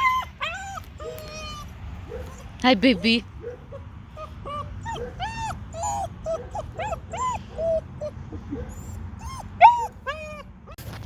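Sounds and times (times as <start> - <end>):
puppy whimpering: 0.0 - 10.8.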